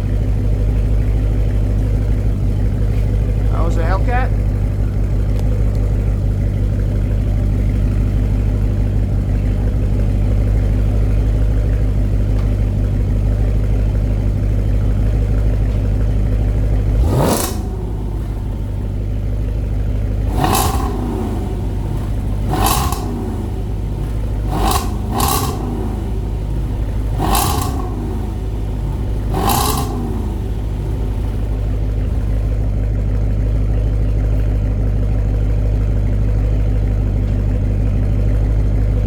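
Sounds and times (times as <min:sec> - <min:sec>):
engine revving: 0:00.0 - 0:32.9
car engine idling: 0:00.0 - 0:39.0.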